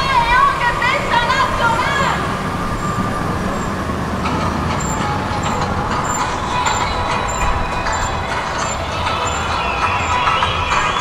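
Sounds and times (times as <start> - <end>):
faint high ticking: 0.0 - 11.0
vehicle running rumble: 0.0 - 11.0.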